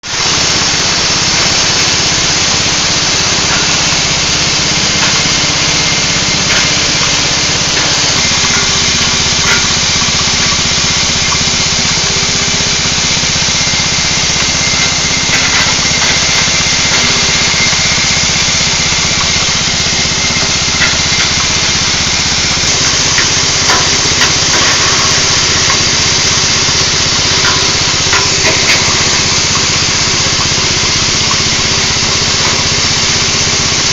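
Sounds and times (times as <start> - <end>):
forage chopper motor droning: 0.0 - 33.9.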